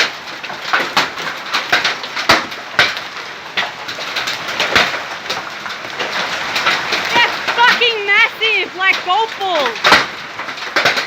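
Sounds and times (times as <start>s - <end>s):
hailstones striking hard surfaces: 0.0s - 11.0s.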